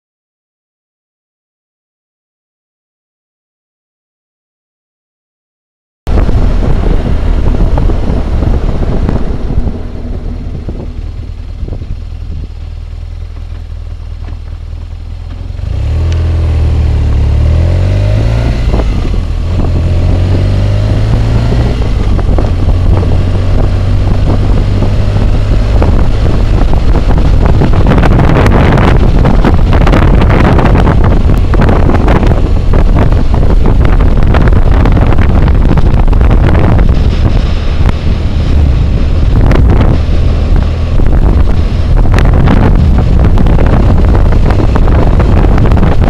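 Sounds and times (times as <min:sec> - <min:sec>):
motorcycle engine accelerating: 0:06.1 - 0:46.0
wind roar: 0:06.1 - 0:46.0.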